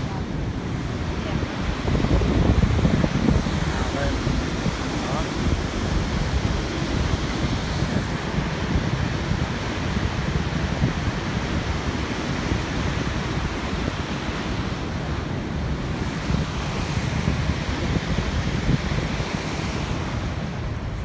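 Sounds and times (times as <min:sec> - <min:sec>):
water rushing from dam outlet: 0:00.0 - 0:21.0
wind buffeting microphone: 0:00.0 - 0:21.0.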